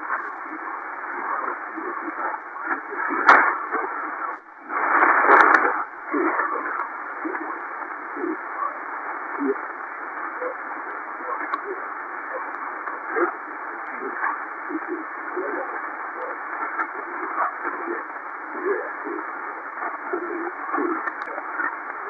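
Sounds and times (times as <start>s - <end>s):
radio hiss: 0.0s - 22.0s
radio voice transmission: 0.0s - 22.0s.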